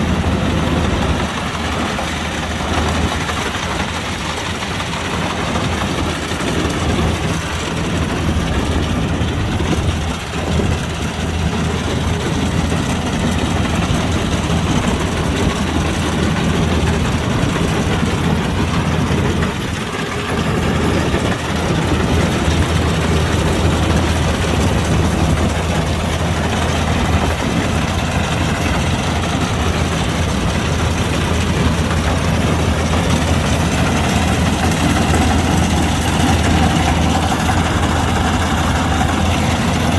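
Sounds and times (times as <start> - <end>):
combine harvester humming: 0.0 - 39.9.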